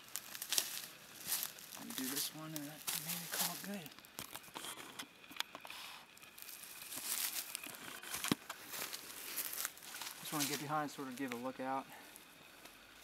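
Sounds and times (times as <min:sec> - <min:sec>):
footsteps on dry leaves: 0:00.0 - 0:04.6, 0:05.7 - 0:13.0.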